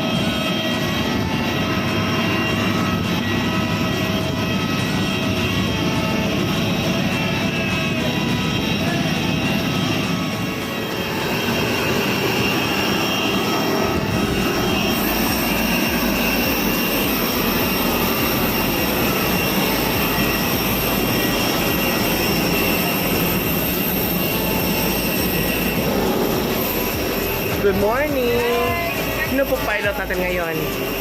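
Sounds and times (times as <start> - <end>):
high whining tones: 0.0 - 31.0
jet engines running: 0.0 - 31.0.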